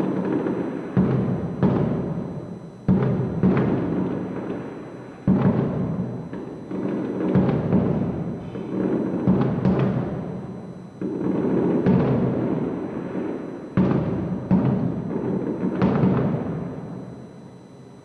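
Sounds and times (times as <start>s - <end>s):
distant firework booms: 0.0s - 17.0s.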